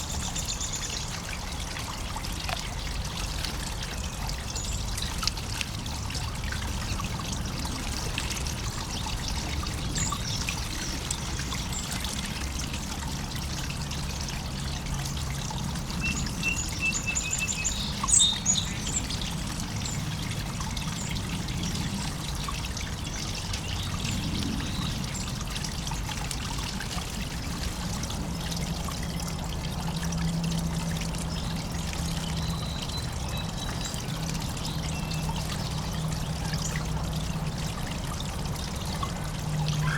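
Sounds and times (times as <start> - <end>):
fountain water trickling: 0.0 - 39.9.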